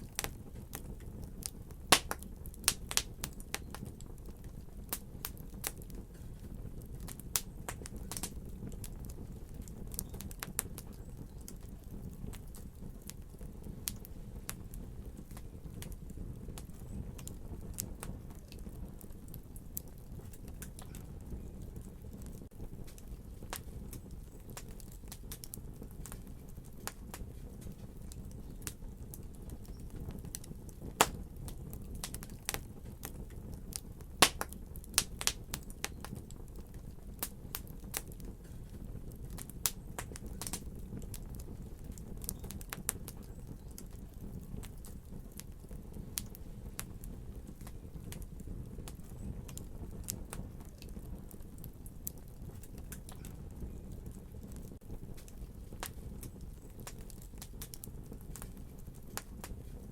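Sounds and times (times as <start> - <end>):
low fire rumble: 0.0 - 59.9
wood fire crackling: 0.0 - 59.9.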